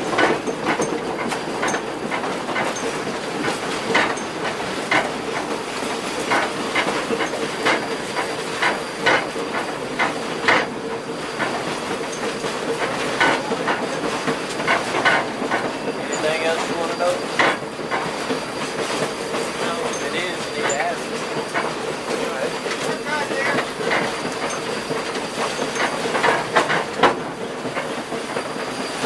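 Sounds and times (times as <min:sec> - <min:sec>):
train wheels clicking over rail joints: 0:00.0 - 0:29.0.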